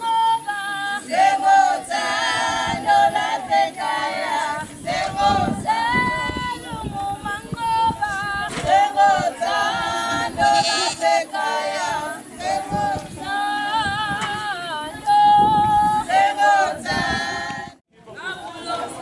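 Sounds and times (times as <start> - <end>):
group singing unaccompanied: 0.0 - 19.0.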